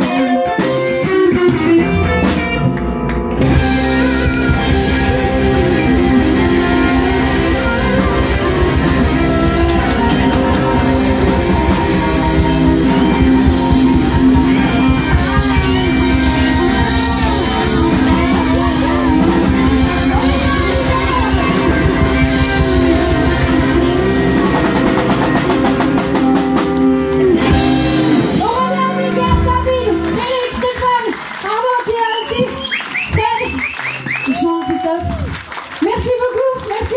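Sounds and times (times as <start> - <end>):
blues band playing: 0.0 - 36.9.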